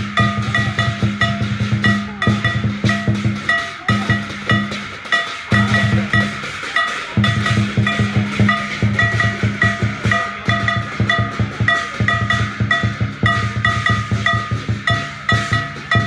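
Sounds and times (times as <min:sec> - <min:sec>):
drum beating fast rhythm: 0:00.0 - 0:16.0
ringing metal clangs: 0:00.0 - 0:16.0.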